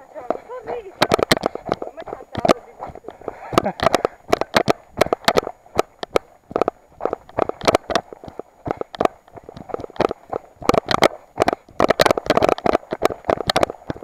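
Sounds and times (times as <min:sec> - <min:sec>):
running footsteps on stony dirt: 0:00.0 - 0:14.0.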